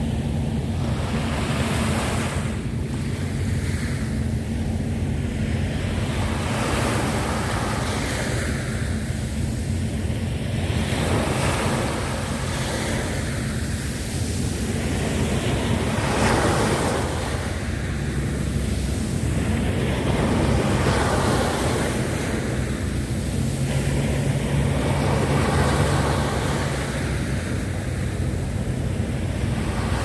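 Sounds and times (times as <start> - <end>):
sea waves breaking on shore: 0.0 - 30.0
steady low rumble: 0.0 - 30.0.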